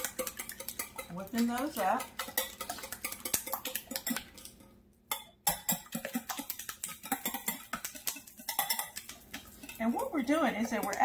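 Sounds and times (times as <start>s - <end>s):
whisk clicking against glass bowl: 0.0s - 11.0s.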